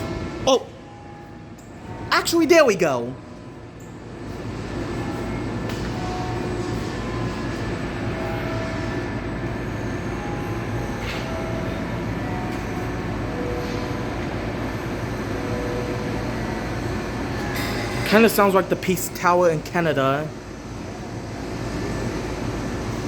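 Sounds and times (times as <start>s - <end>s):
low rumble of city noise: 0.0s - 23.0s.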